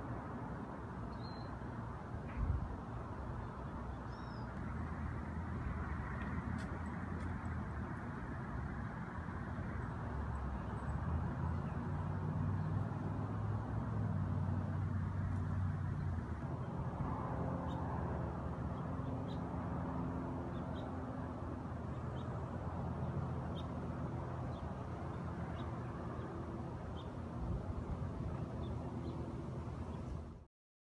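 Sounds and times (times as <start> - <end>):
traffic engine hum: 0.0 - 30.5.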